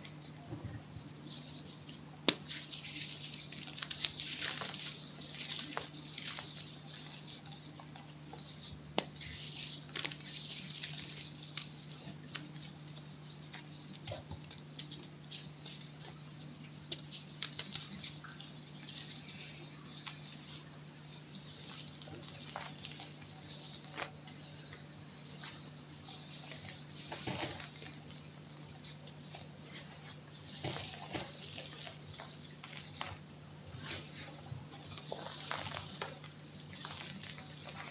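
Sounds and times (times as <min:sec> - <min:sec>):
chalk crunching and crumbling: 0:01.0 - 0:37.9.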